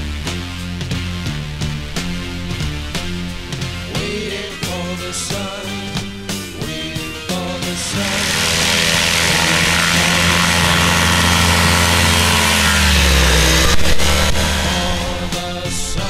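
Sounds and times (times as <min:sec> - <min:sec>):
propeller buzzing: 0:00.0 - 0:16.0
two-stroke engine at full throttle: 0:00.0 - 0:16.0.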